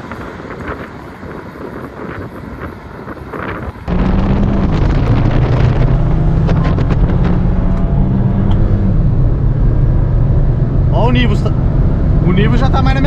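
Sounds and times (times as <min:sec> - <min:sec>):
car engine at full throttle: 0:00.0 - 0:13.0
wind buffeting microphone: 0:00.0 - 0:13.0.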